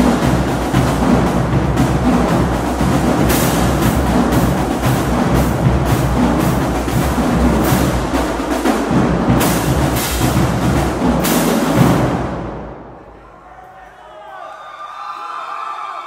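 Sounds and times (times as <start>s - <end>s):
marching bass drums: 0.0s - 12.9s
snare drums: 0.0s - 13.0s.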